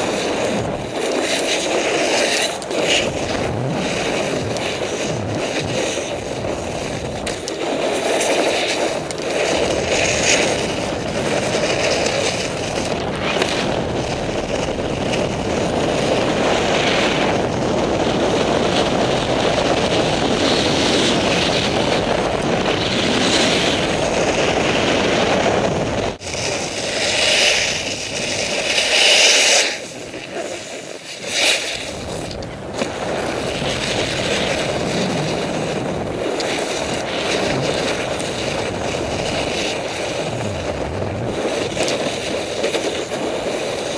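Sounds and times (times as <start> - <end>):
snowboard scraping over snow: 0.0 - 43.9
wind buffeting microphone: 0.0 - 43.9.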